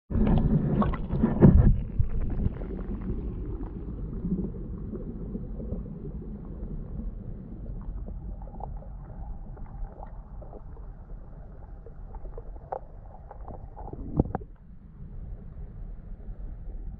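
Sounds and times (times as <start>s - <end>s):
muffled underwater rumble: 0.1s - 16.9s.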